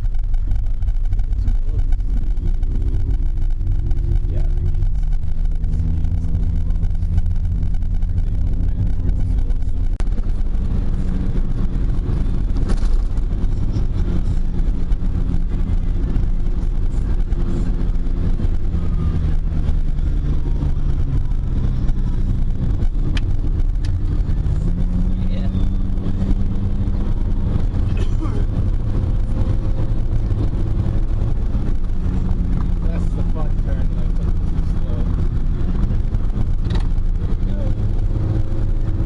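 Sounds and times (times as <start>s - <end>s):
car engine running: 0.0s - 39.0s
road rumble: 0.0s - 39.0s.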